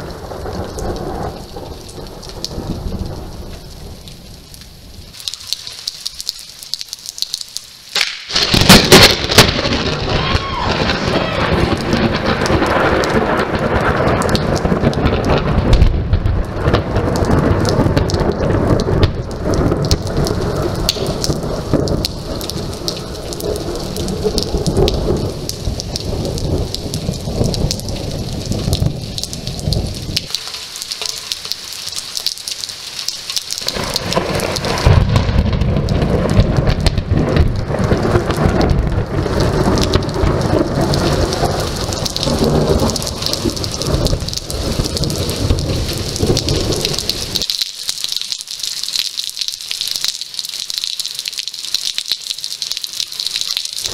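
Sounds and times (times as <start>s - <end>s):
thunder rumbling: 0.0s - 5.1s, 8.0s - 48.6s, 51.3s - 53.9s
rain falling: 0.0s - 53.9s.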